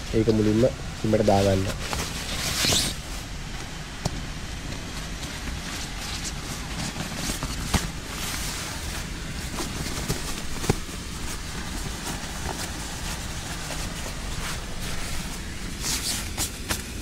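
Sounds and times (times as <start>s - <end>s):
steady rushing background noise: 0.0s - 17.0s
gear rustling: 1.2s - 3.7s, 4.6s - 17.0s.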